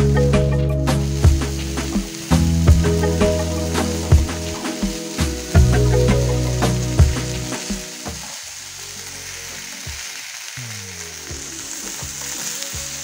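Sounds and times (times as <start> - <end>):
background music: 0.0 - 13.0
vegetables sizzling in oil: 0.0 - 13.0.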